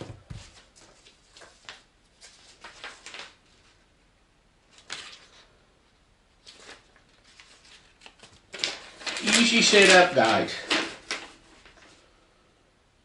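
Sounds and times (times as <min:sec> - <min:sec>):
paper rustling and crinkling: 0:00.0 - 0:03.9, 0:04.7 - 0:05.6, 0:06.4 - 0:12.2.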